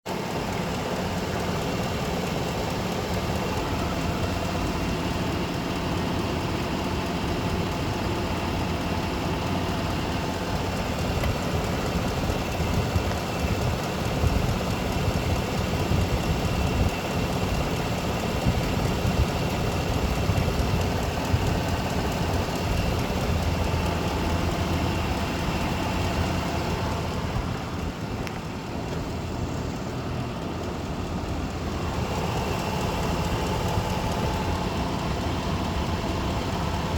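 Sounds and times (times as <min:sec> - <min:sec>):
engine idling with ticking: 0:00.0 - 0:36.9.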